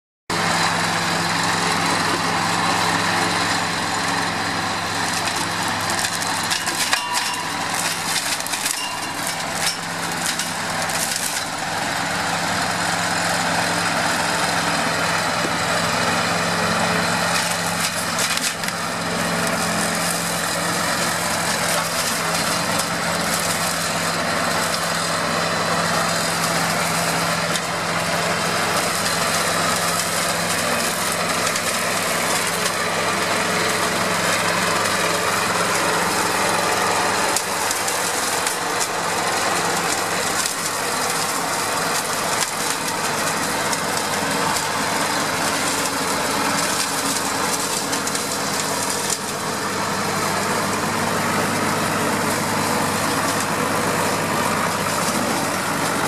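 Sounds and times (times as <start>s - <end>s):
tractor diesel engine running: 0.3s - 56.0s.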